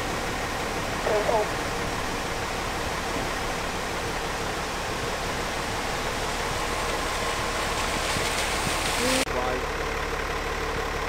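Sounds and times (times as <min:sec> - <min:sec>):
heavy rain pouring: 0:00.0 - 0:09.6.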